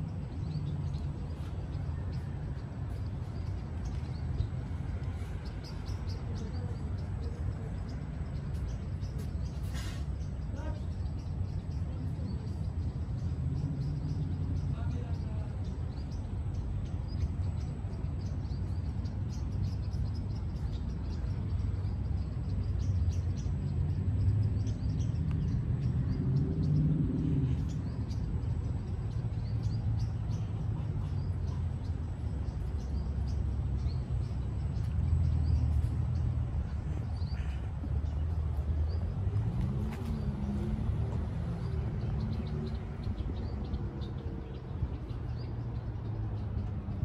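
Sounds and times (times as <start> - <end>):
road traffic rumble: 0.0 - 47.0
small birds chirping: 0.0 - 47.0.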